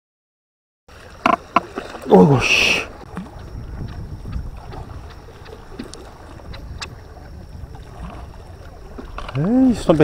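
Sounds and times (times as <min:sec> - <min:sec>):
water at the shore: 0:00.9 - 0:10.0
wind on microphone: 0:01.2 - 0:10.0.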